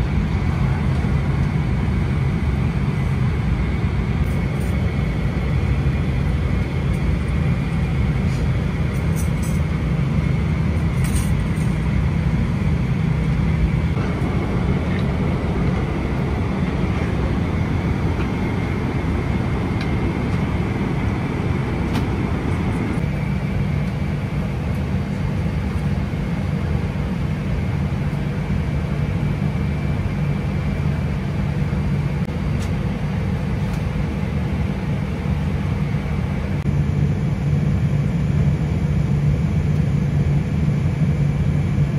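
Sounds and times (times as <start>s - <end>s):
aircraft cabin engine rumble: 0.0s - 41.9s
faint steady whine: 0.0s - 41.9s.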